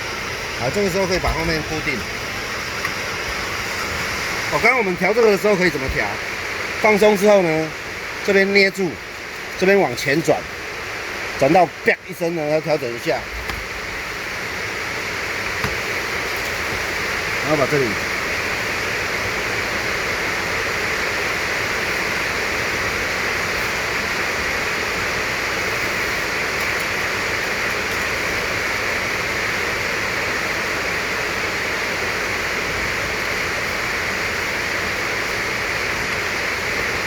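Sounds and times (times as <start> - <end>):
steady hiss: 0.0 - 37.0.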